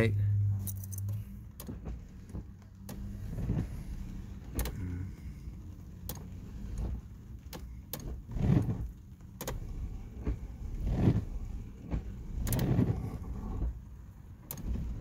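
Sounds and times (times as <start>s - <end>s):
low rumbling handling noise: 0.0s - 15.0s.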